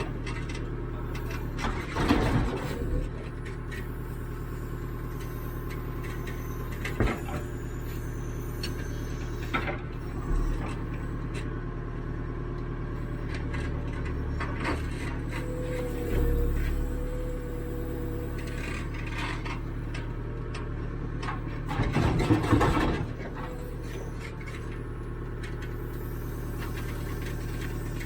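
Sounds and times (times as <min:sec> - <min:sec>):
backhoe diesel engine running: 0:00.0 - 0:28.0.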